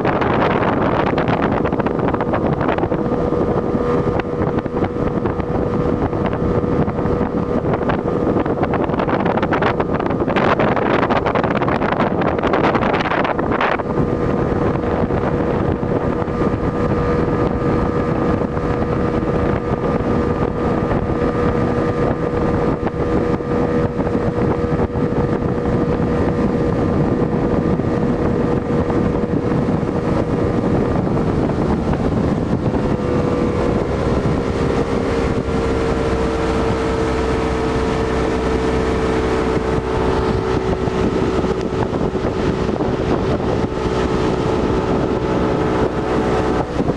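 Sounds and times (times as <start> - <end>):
motorboat engine running: 0.0 - 46.9
wind buffeting microphone: 0.0 - 46.9.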